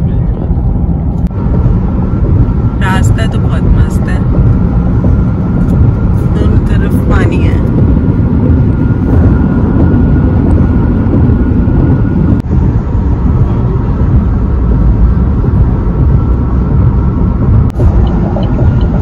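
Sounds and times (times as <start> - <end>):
car cabin road noise: 0.0 - 19.0.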